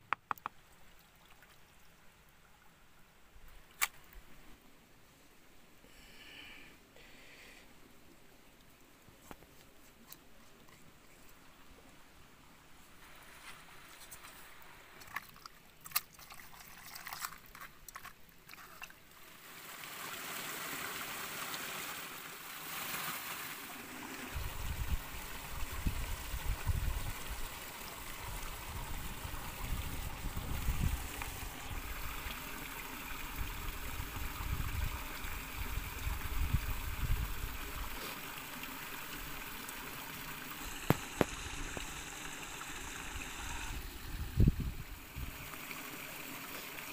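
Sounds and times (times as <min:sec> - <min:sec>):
stream trickling over rocks: 0:00.2 - 0:04.3, 0:12.8 - 0:46.9.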